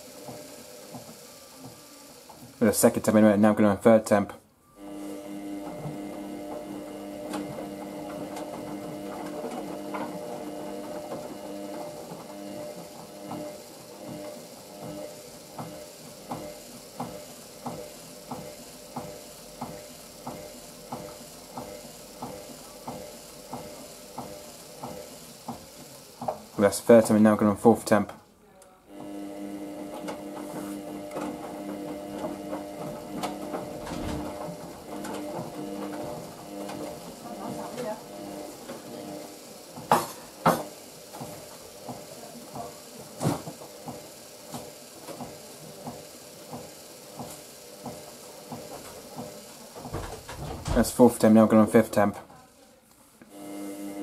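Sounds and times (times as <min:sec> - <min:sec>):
washing machine motor hum: 0:00.0 - 0:28.1, 0:28.7 - 0:54.0.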